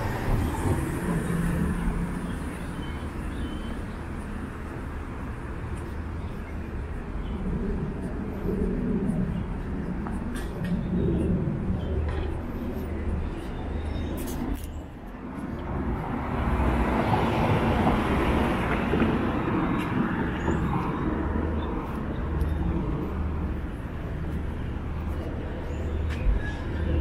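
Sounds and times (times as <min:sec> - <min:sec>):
low city rumble: 0:00.0 - 0:27.0.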